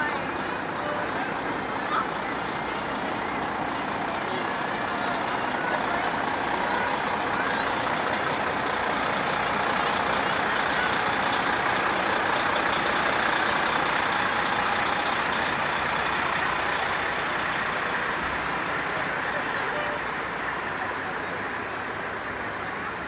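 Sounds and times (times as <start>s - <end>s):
heavy truck engine passing: 0.0s - 23.0s.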